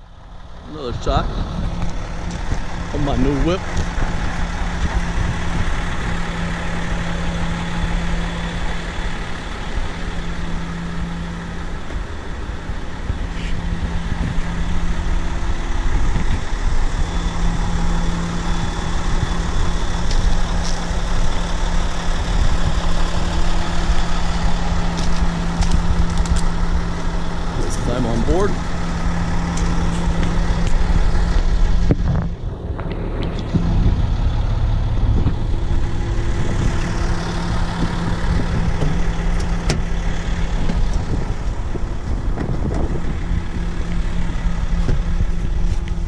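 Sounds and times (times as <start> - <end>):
diesel engine idling: 0.0 - 46.0.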